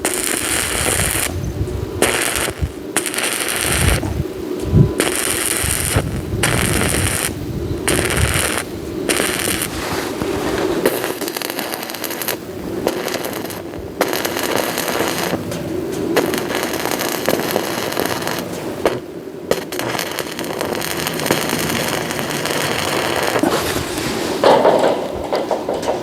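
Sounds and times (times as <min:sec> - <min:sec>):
arc welding crackling sizzle: 0:00.0 - 0:26.0.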